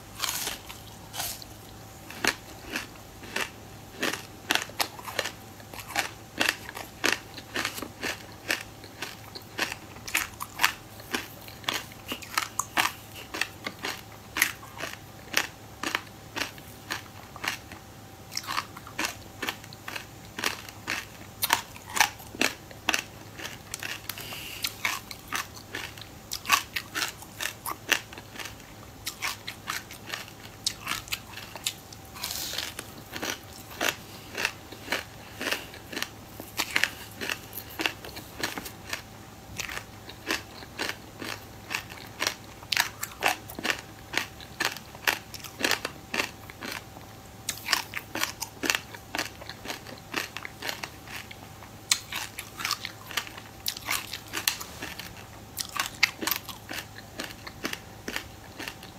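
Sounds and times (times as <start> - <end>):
crunchy chewing: 0.0 - 58.9.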